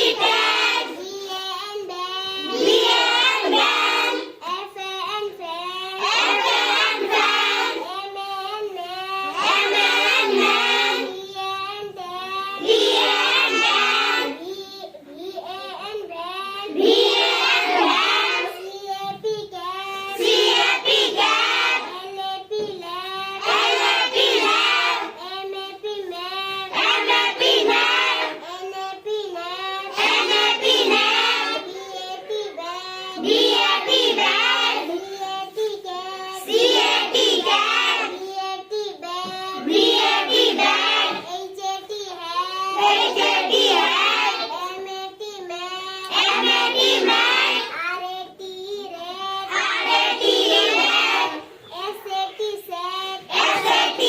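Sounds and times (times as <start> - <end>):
children chanting words: 0.0 - 54.0.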